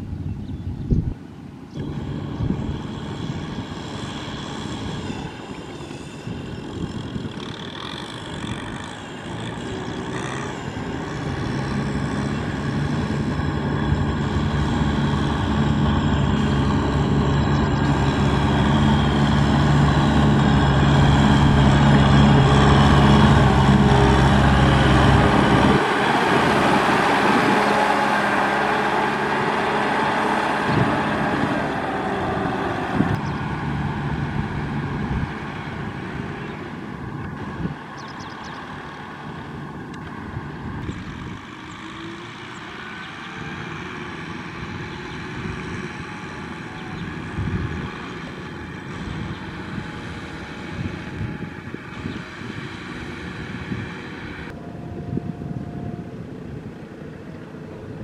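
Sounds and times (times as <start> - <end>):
tractor diesel engine: 1.2 - 58.0.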